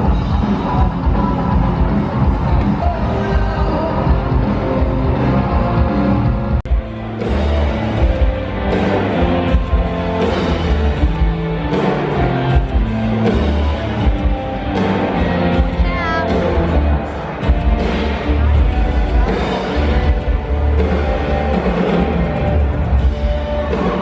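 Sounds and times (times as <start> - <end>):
rock music with guitar: 0.0 - 24.0.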